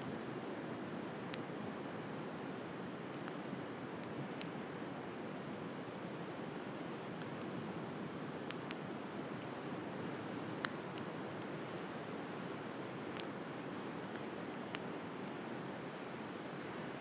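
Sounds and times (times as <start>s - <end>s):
bonfire crackling and popping: 0.7s - 17.0s.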